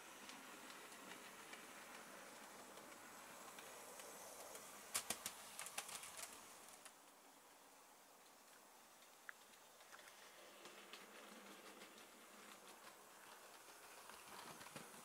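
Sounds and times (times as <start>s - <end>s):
model train running: 0.0s - 15.0s.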